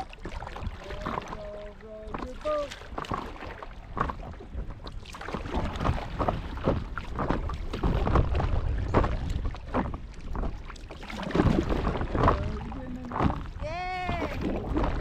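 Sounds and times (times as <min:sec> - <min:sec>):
paddle splashing in water: 0:00.0 - 0:15.0
wind buffeting microphone: 0:00.0 - 0:15.0.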